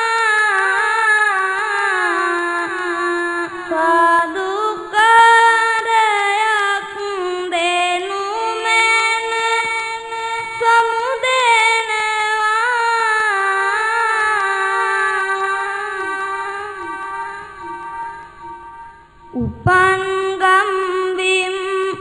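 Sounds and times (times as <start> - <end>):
boy chanting: 0.0 - 17.8, 19.4 - 22.0.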